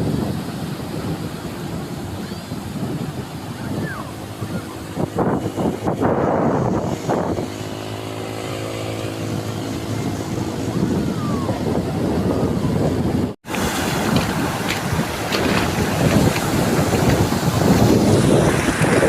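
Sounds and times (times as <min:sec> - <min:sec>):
surf: 0:00.0 - 0:19.0
wind on microphone: 0:00.0 - 0:19.0.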